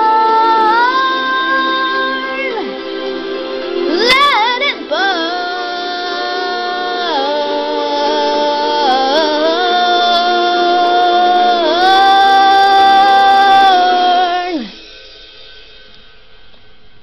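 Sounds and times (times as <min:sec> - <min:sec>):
high voice singing: 0:00.0 - 0:14.9
backing track: 0:00.0 - 0:17.0.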